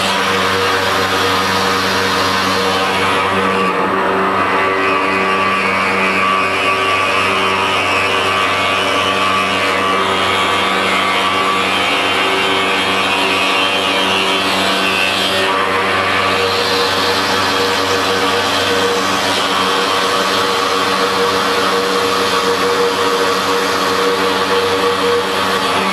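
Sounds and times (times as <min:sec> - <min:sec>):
machine hum: 0:00.0 - 0:25.9
rough stone cutting noise: 0:00.0 - 0:25.9.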